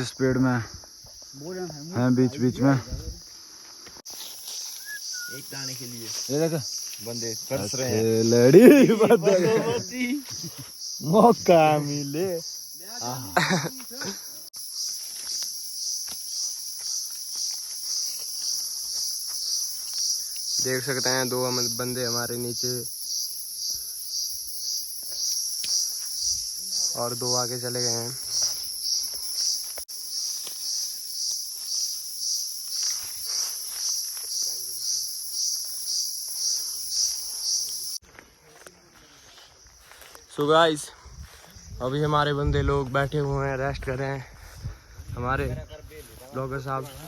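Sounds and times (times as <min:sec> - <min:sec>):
insects shrilling: 0:00.0 - 0:38.0
rustles on forest floor: 0:03.1 - 0:11.0, 0:12.5 - 0:22.6, 0:23.4 - 0:41.9, 0:44.3 - 0:47.0.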